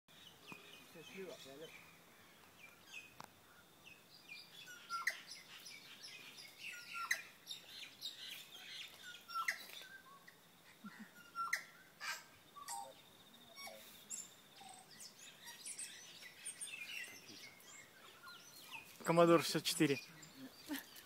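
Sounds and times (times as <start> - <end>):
soft bird chirps: 0.1 - 21.0
songbird singing: 0.1 - 21.0.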